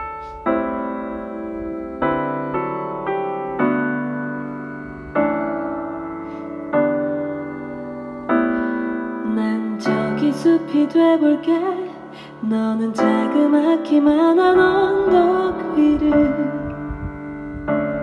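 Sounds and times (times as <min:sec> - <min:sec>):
soft piano chords ringing: 0:00.0 - 0:18.0.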